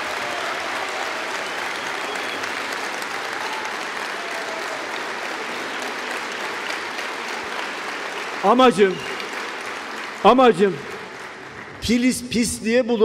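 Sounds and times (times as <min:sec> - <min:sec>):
crowd applauding: 0:00.0 - 0:12.5.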